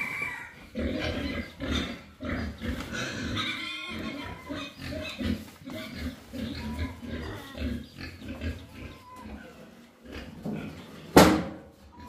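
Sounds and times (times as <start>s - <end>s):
pigs grunting: 0.0s - 11.3s.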